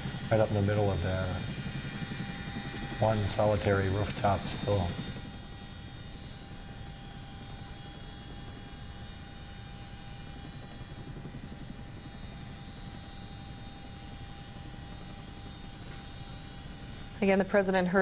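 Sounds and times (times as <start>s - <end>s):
aircraft engine and cabin rumble: 0.0s - 18.0s.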